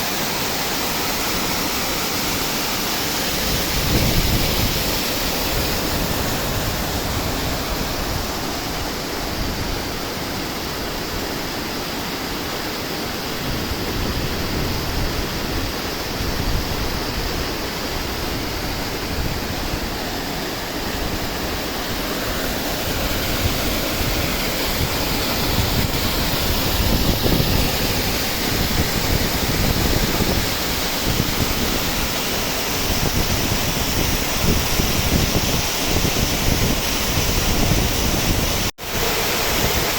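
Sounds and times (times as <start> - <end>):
river water rushing: 0.0 - 39.9
wind on microphone: 3.1 - 11.3, 13.2 - 39.9.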